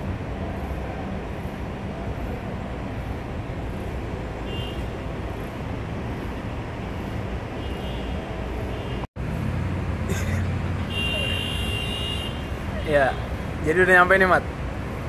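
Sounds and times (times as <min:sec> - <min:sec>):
vehicle rumble and road noise: 0:00.0 - 0:15.0.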